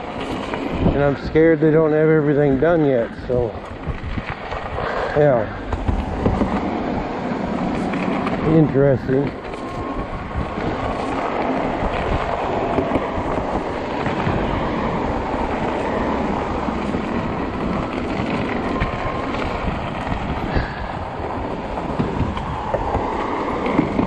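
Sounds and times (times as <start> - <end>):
tyres rolling over slush: 0.0 - 24.0
wind on microphone: 0.0 - 24.0.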